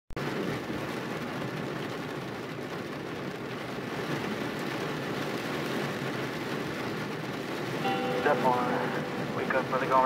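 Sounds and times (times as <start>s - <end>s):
rain on car: 0.2s - 10.0s.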